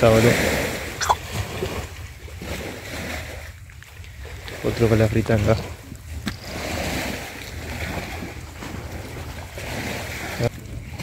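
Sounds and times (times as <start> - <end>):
water washing at river's edge: 0.0 - 11.0
wind on microphone: 0.0 - 11.0.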